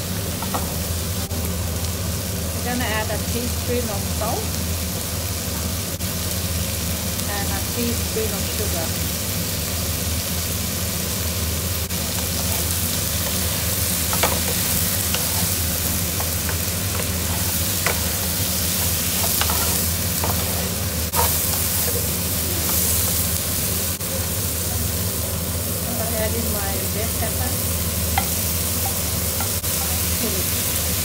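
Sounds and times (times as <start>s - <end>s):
prawns sizzling in hot oil: 0.0s - 31.0s
steady low hum: 0.0s - 31.0s.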